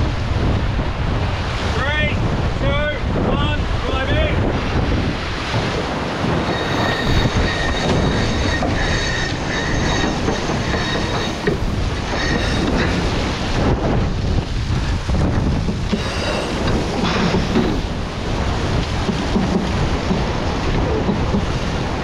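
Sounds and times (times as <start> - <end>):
high steady whine from boat: 0.0 - 22.0
rush of water and wind: 0.0 - 22.0.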